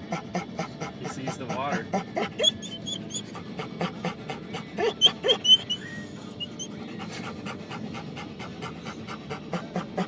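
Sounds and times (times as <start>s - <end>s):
dog whining: 0.0s - 7.8s, 8.5s - 10.0s
dog panting: 0.0s - 10.0s.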